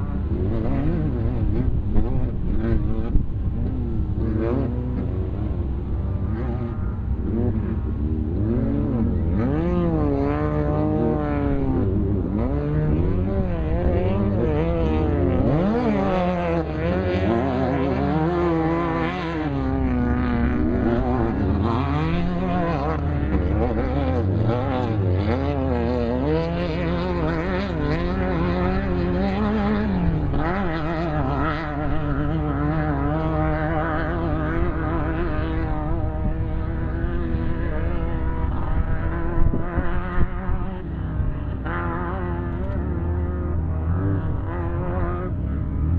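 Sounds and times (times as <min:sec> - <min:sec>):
vehicle engine revving: 0:00.0 - 0:45.9.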